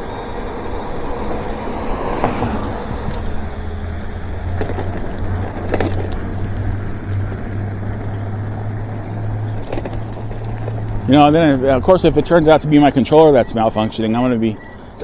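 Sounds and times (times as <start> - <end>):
low hum: 0.0 - 15.0
tyres on wet pavement: 0.0 - 15.0.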